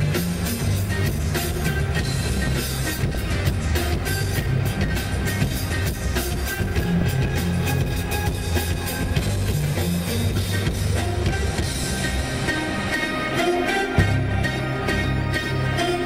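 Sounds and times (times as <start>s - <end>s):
drum kit beat: 0.0s - 16.0s
live band playing rock pop: 0.0s - 16.0s.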